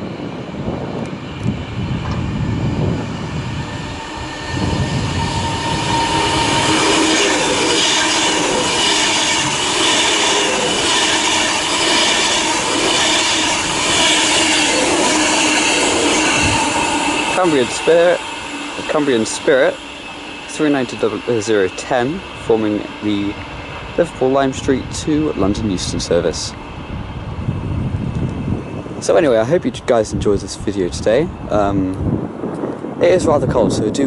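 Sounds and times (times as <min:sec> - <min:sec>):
high whining tones: 0:00.0 - 0:29.2
electric train passing at speed: 0:00.0 - 0:34.0.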